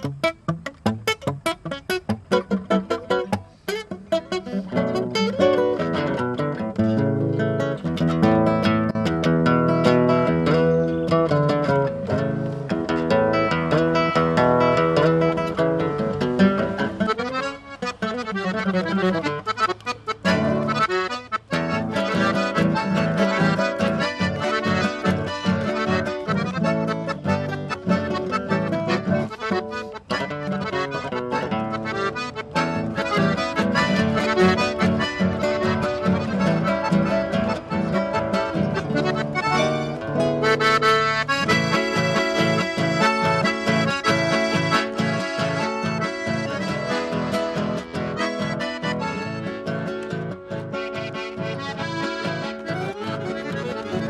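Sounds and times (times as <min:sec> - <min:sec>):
accordion folk music: 0:00.0 - 0:54.0.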